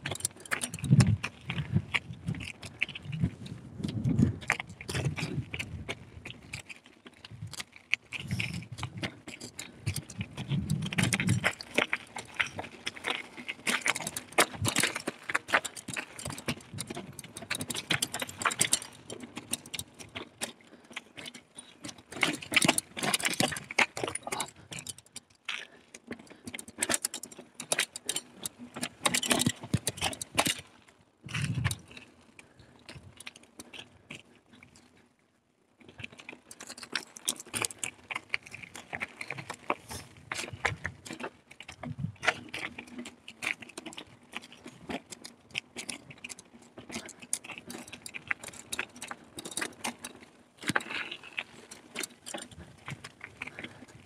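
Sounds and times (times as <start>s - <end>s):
mountain bike rattling over trail: 0.0s - 54.0s.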